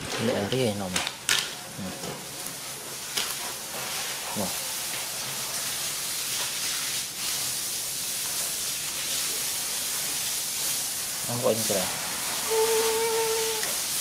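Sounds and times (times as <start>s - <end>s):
steady hiss: 1.5s - 14.0s.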